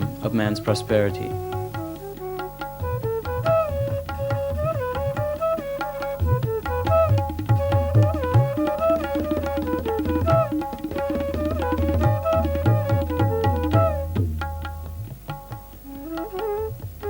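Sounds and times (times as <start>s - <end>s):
tabla playing quick rhythm: 0.0s - 17.0s.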